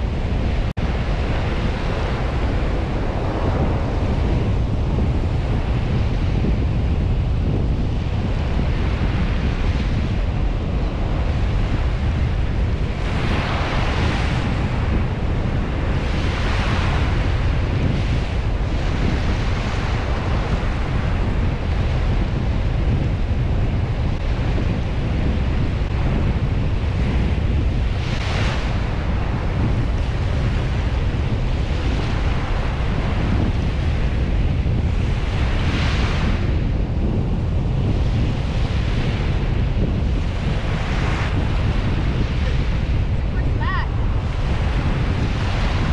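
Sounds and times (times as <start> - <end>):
surf washing onto beach: 0.0 - 45.9
wind buffeting microphone: 0.0 - 45.9.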